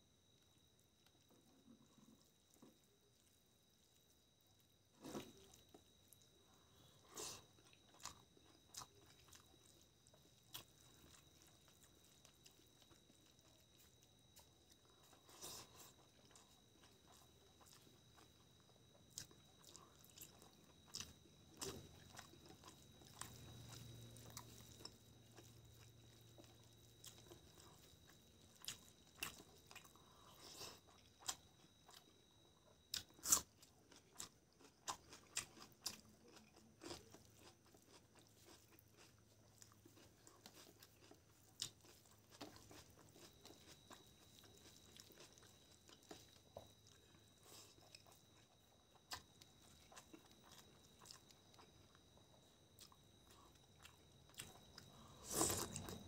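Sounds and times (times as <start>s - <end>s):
person chewing food: 4.9s - 56.0s.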